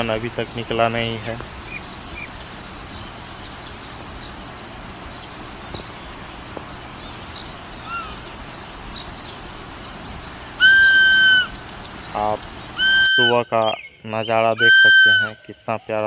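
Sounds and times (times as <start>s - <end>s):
loud steady-pitched bird call: 0.0s - 16.0s
small birds chirping: 0.0s - 16.0s
bird trill: 1.0s - 16.0s.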